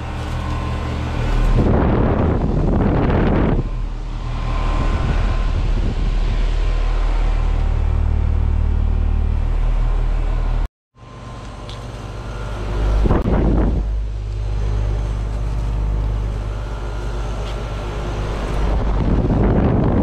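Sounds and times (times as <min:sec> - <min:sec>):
heat pump hum: 0:00.0 - 0:20.0.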